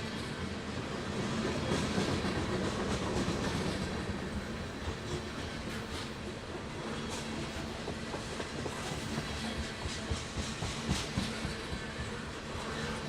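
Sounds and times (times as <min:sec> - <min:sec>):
train rolling on rails: 0:00.0 - 0:13.0.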